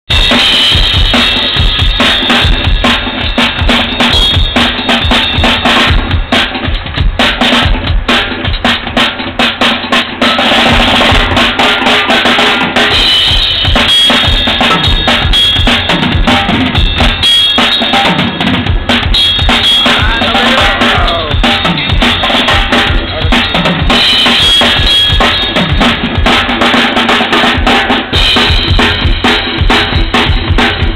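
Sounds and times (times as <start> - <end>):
cymbals: 0.1 - 30.9.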